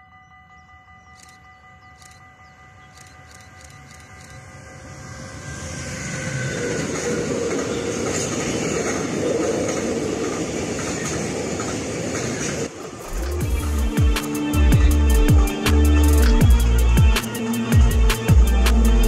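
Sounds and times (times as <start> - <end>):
electric locomotive passing: 0.0 - 19.0
train wheels running on rails: 1.1 - 19.0.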